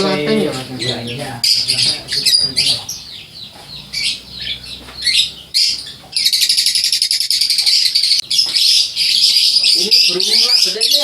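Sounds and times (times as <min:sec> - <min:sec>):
fast chattering bird trill: 0:00.0 - 0:11.0
lovebirds chirping and squawking: 0:00.0 - 0:11.0.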